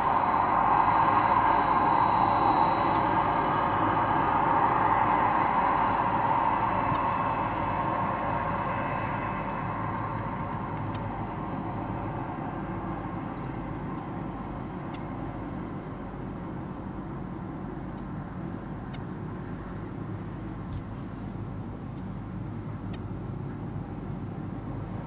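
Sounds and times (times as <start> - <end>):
jet engines rumbling: 0.0 - 21.8
jet engine whine: 0.0 - 25.0.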